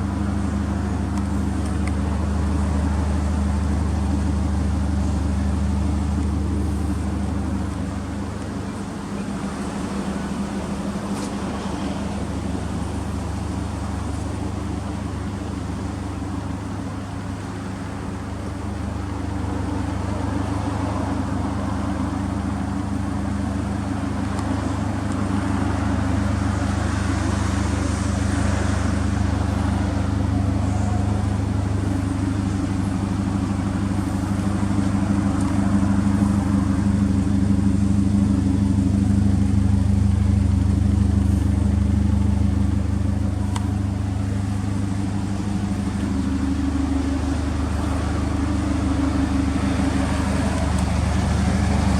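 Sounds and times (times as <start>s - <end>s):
car engine running steadily: 0.0s - 51.9s.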